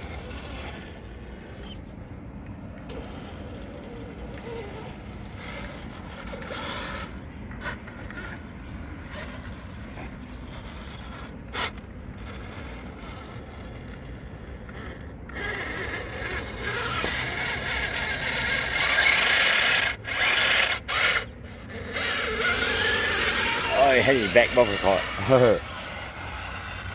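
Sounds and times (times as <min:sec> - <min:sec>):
rc truck motor and tyres churning: 0:00.0 - 0:26.9.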